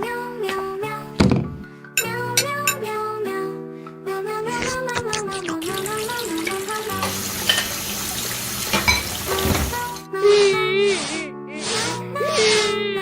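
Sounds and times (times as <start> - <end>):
background music warbling melody: 0.0 - 13.0.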